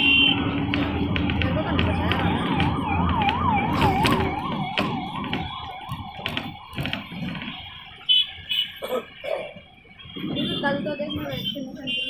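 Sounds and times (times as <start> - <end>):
electronic siren wailing: 0.0 - 12.0.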